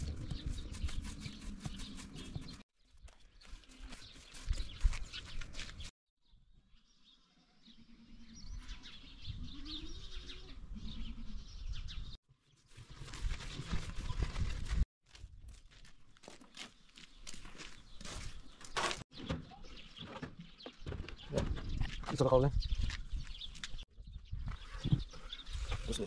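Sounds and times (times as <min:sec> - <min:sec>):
birds chirping: 0:00.0 - 0:14.2, 0:16.7 - 0:26.0.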